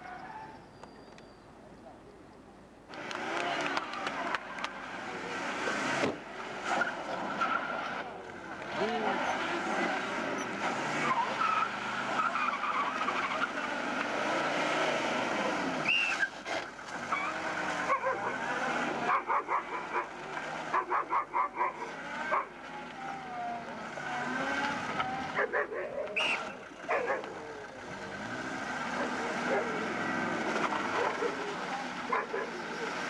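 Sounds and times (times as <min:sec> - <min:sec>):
car engine at low revs: 0:02.8 - 0:33.0.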